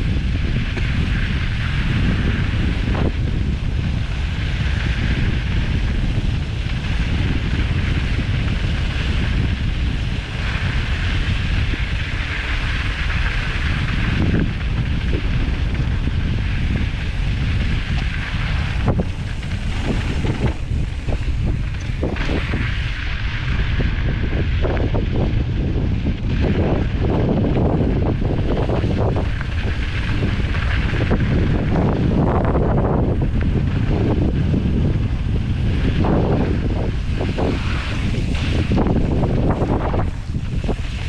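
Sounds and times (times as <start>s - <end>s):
bike tyres rolling on gravel: 0.0s - 41.0s
wind buffeting microphone: 0.0s - 41.0s.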